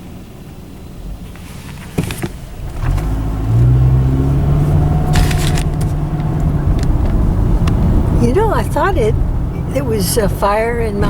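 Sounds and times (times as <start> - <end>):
car engine hum: 0.0 - 11.0
road rumble: 0.0 - 11.0.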